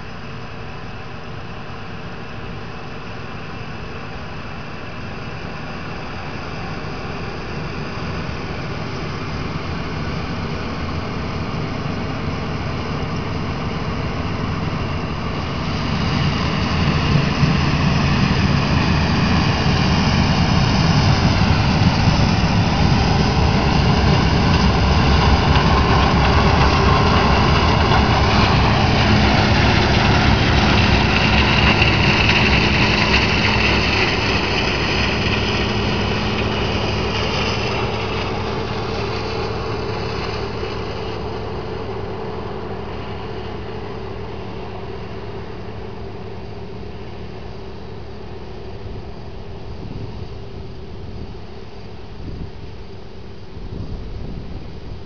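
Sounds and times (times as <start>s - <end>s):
heavy diesel machinery running: 0.0s - 53.6s
wavering high whine: 0.0s - 55.0s.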